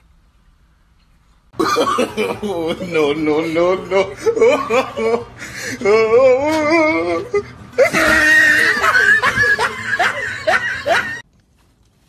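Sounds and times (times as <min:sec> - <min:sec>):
person laughing hard: 0:01.6 - 0:11.2.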